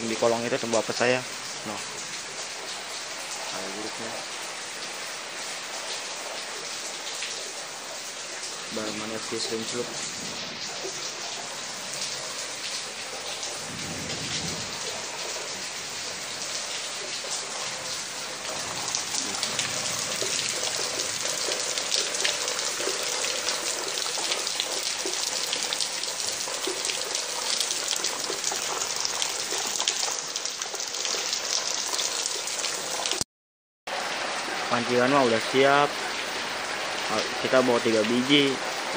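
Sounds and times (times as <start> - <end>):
heavy rain on paving: 0.0 - 33.2, 33.9 - 38.9.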